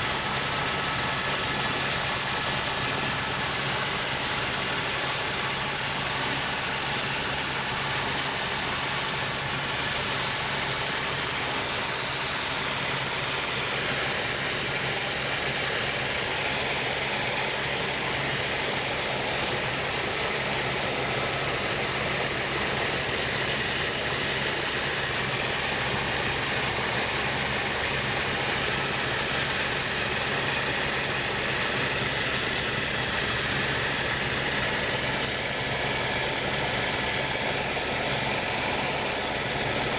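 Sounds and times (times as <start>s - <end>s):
small aircraft engine drone: 0.0s - 39.9s.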